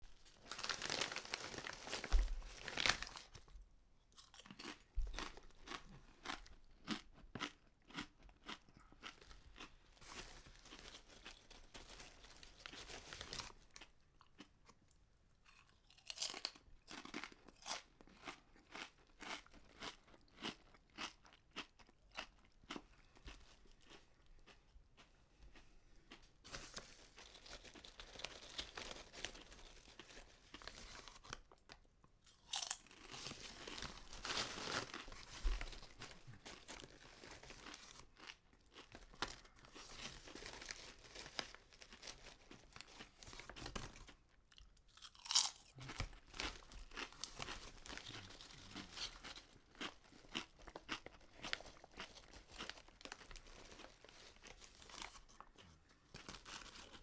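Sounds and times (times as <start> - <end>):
chewing crunchy chips: 0.3 - 57.0.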